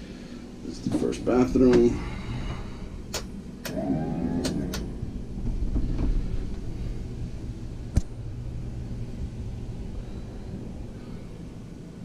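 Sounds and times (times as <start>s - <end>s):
low rumble: 0.5s - 12.0s.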